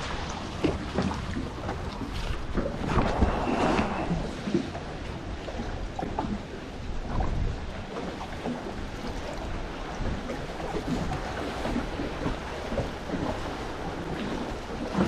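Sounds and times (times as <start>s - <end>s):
water lapping: 0.0s - 15.0s
wind on microphone: 0.0s - 15.0s.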